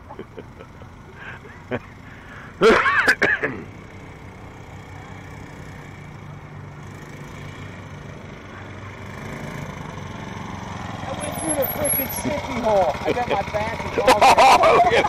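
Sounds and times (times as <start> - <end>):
small motorbike engine running: 0.0 - 15.0.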